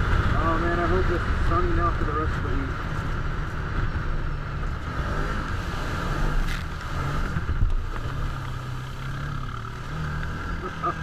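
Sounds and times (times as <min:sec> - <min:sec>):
engine running at speed: 0:00.0 - 0:11.0
tyre and trail rumble: 0:00.0 - 0:11.0.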